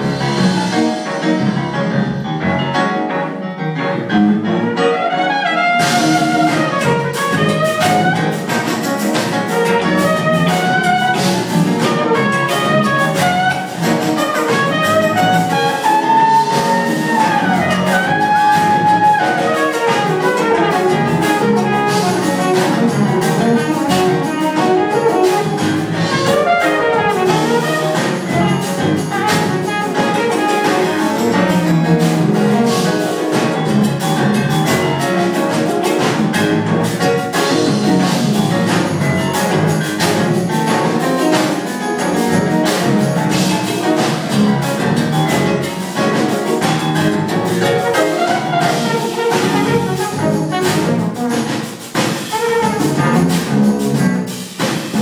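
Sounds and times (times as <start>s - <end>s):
jazz fusion band playing live: 0.0s - 55.0s
trumpet melody with slides: 0.0s - 55.0s.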